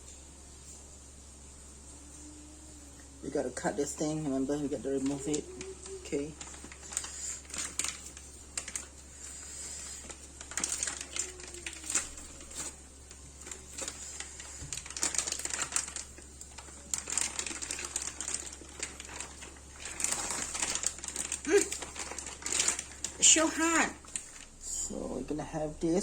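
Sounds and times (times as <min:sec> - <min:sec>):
plastic packaging crinkling: 0:02.3 - 0:24.6.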